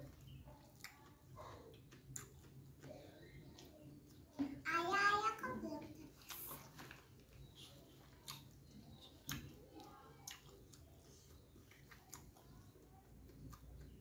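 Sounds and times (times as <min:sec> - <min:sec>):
faint close-up chewing: 0:00.0 - 0:04.4, 0:05.9 - 0:14.0.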